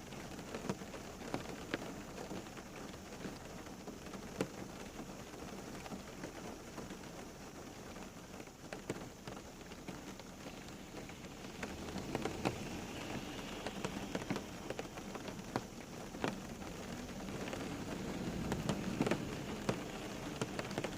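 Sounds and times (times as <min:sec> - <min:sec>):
raindrops ticking on a surface: 0:00.0 - 0:20.9
steady rain pattering: 0:00.0 - 0:20.9.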